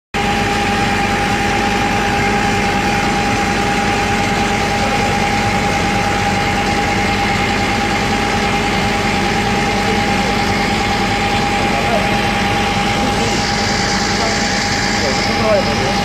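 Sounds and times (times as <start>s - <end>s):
pump unit humming with whine: 0.2s - 16.0s.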